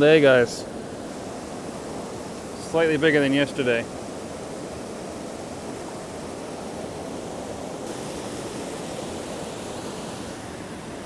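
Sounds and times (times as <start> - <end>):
rushing river rapids: 0.0 - 11.0.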